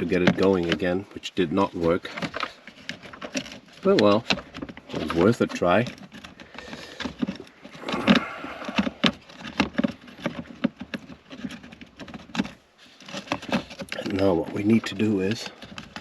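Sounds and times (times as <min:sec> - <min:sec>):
plastic parts clicking and rattling: 0:00.0 - 0:16.0.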